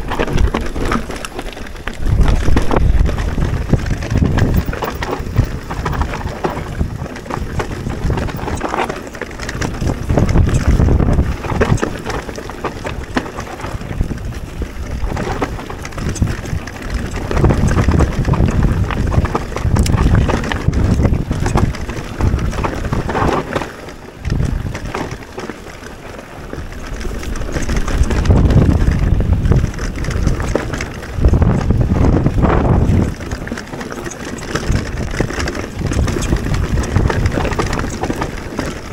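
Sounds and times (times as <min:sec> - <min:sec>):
bike tyres rumbling on dirt: 0:00.0 - 0:38.9
wind buffeting microphone: 0:00.0 - 0:38.9.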